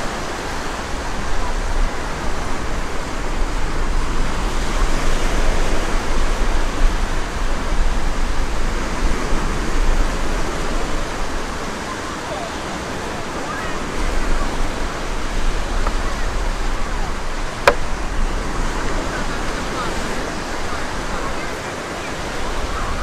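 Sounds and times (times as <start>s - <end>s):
sea waves breaking on sand: 0.0s - 23.0s.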